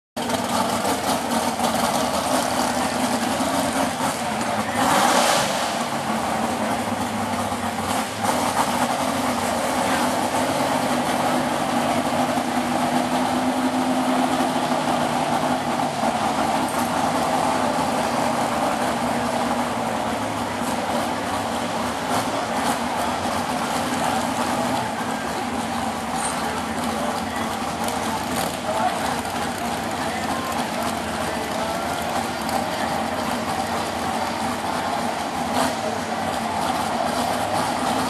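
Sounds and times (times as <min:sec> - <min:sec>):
truck engine running at low speed: 0:00.2 - 0:38.0.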